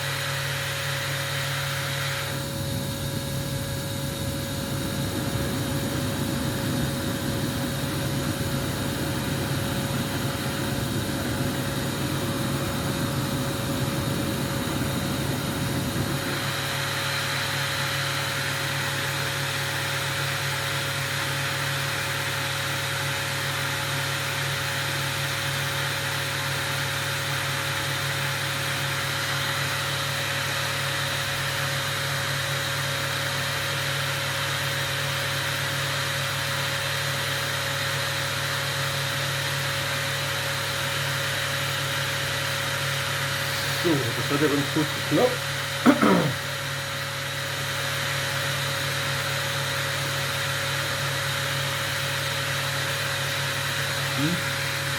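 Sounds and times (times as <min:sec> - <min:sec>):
machine noise with hum: 0:00.0 - 0:54.9.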